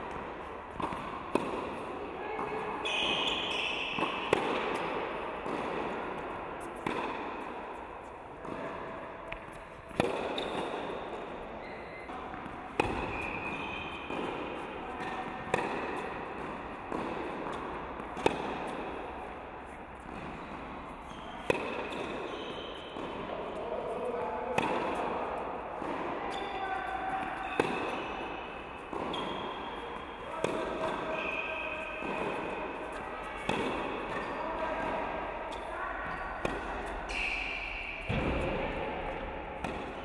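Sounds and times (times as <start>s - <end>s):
tennis racket hitting ball: 0.0s - 7.6s, 8.4s - 11.4s, 12.0s - 22.3s, 22.9s - 23.4s, 24.0s - 26.4s, 27.2s - 31.1s, 32.0s - 37.1s, 38.0s - 40.0s
tennis ball bouncing: 0.0s - 23.4s, 24.0s - 26.4s, 27.2s - 31.1s, 32.0s - 37.1s, 38.0s - 40.0s.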